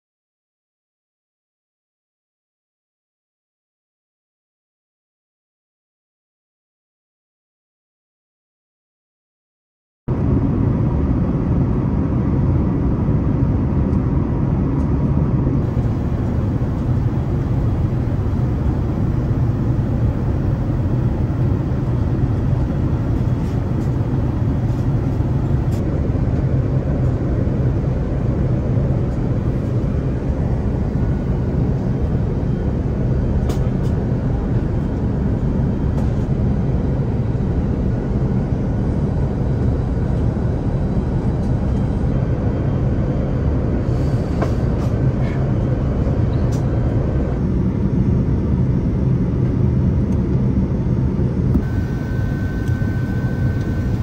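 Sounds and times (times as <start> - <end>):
airplane cabin rumble: 10.1 - 54.0.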